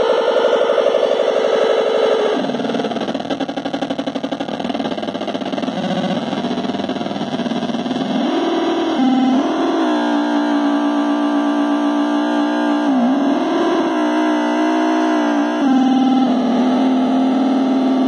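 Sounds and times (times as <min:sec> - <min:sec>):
raspy synthesizer buzz: 0:00.0 - 0:18.0.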